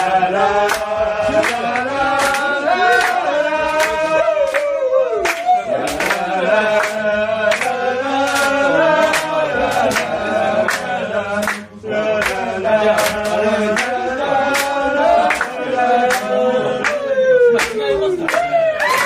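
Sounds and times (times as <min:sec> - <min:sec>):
chorus singing folk song: 0:00.0 - 0:18.7
hand claps: 0:00.0 - 0:19.0.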